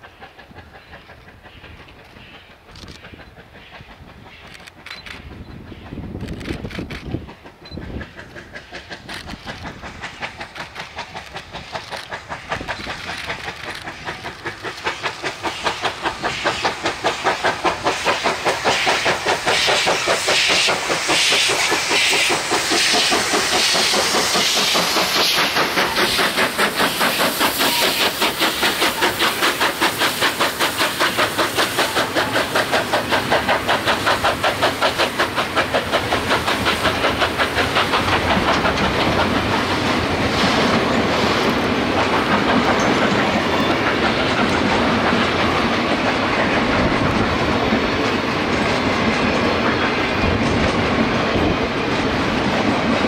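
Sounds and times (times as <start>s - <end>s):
steam hissing: 0.0s - 53.0s
steam locomotive chuffing: 0.0s - 53.0s.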